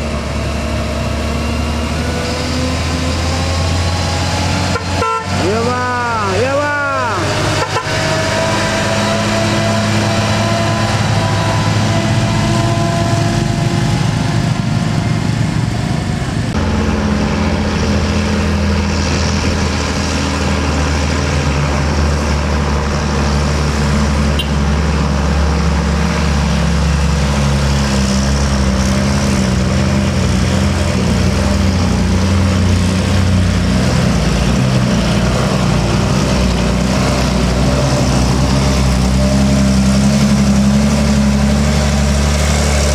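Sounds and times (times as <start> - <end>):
diesel truck engines idling: 0.0 - 42.9.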